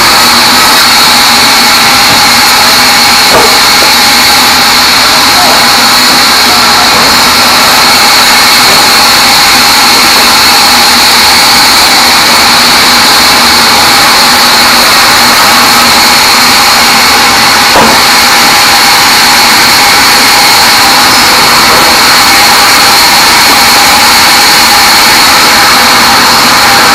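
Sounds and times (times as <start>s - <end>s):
band saw cutting logs: 0.0s - 26.9s.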